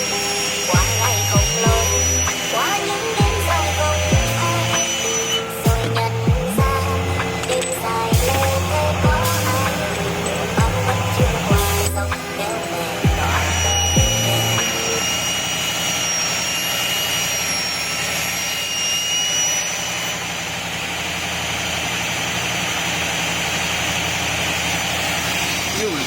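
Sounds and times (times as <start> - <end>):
cutting machine hissing: 0.0 - 26.0
thin high whine: 0.0 - 26.0.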